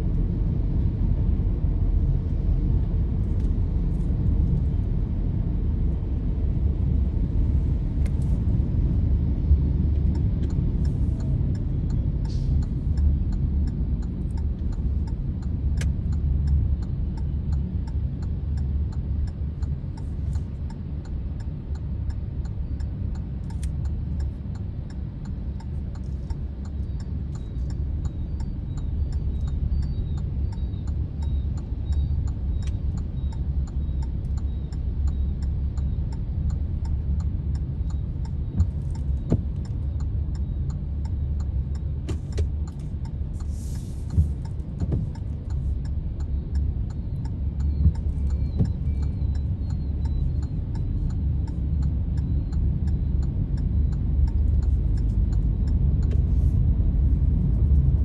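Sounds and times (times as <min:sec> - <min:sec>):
car engine and tyre rumble: 0:00.0 - 0:58.0
faint regular ticking: 0:10.0 - 0:56.5.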